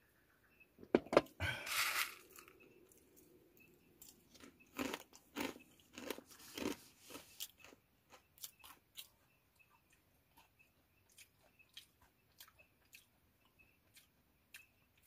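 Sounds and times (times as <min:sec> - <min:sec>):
crunchy snack chewing: 0:01.4 - 0:03.3, 0:04.0 - 0:15.0.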